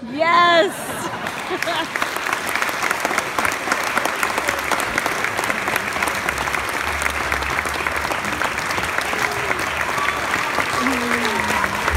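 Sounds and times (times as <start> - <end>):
crowd applauding: 0.6 - 11.9.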